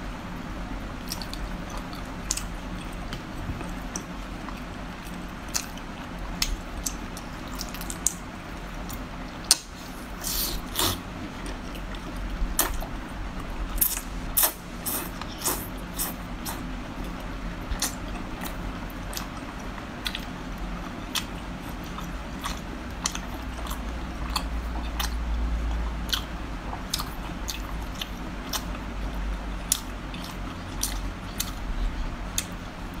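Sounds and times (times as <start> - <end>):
low steady hum: 0.0 - 33.0
wet chewing with mouth clicks: 1.0 - 32.7.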